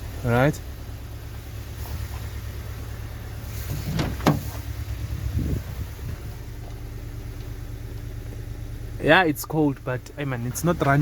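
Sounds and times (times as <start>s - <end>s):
car engine idling unevenly: 0.0s - 11.0s.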